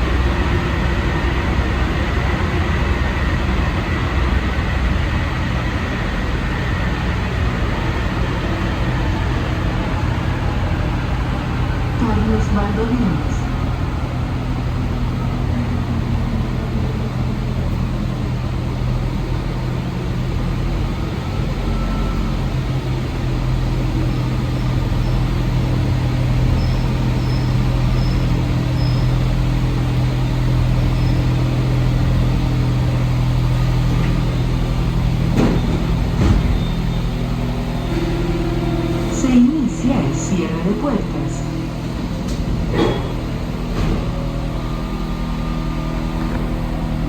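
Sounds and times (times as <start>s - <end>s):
train equipment humming: 0.0s - 47.0s.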